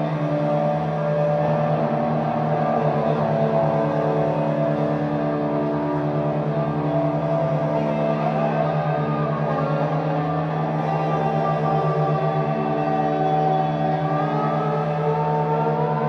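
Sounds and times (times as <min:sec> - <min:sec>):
layered drone tones: 0:00.0 - 0:16.0.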